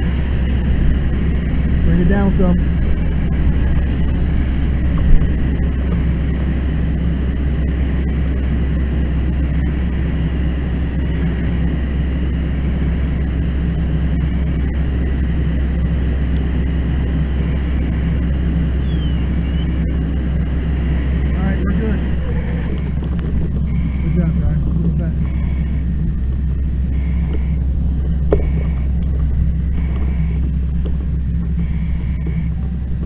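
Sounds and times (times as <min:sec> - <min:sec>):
fire hose water rushing: 0:00.0 - 0:33.0
low steady drone: 0:00.0 - 0:33.0.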